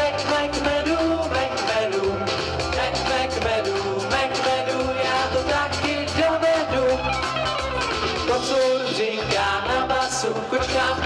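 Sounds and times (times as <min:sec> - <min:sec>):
group singing together: 0:00.0 - 0:07.0, 0:08.2 - 0:11.0
live band over loudspeakers: 0:00.0 - 0:11.0
steady drum beat: 0:00.0 - 0:11.0.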